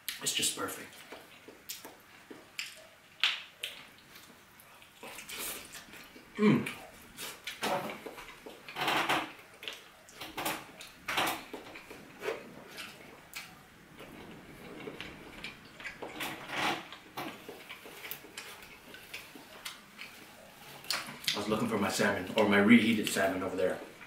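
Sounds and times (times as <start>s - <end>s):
person chewing food: 0.9s - 21.4s.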